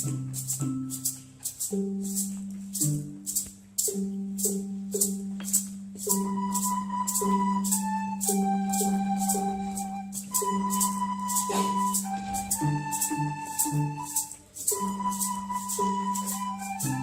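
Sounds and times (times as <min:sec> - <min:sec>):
high sustained melody: 0:00.0 - 0:17.0
shaker beat: 0:00.0 - 0:17.0.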